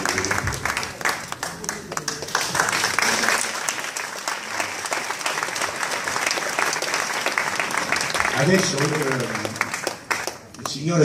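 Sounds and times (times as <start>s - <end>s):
audience applause: 0.0s - 11.0s.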